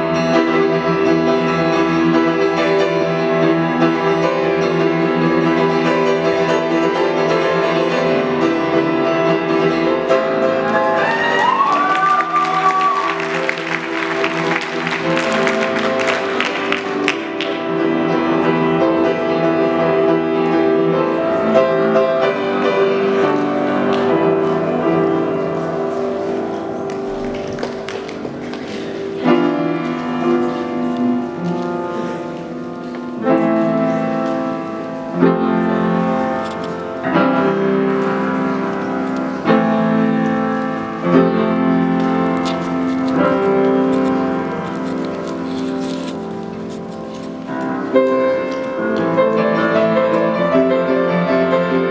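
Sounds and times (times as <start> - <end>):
piano playing slow chords: 0.0 - 51.9.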